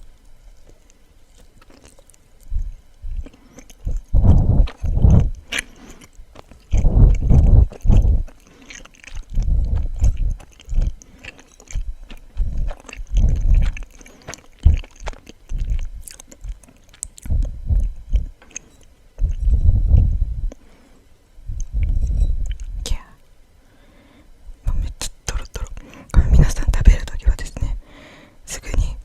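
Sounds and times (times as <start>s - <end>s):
close chewing of soft sweet: 0.0s - 23.3s, 24.5s - 29.0s.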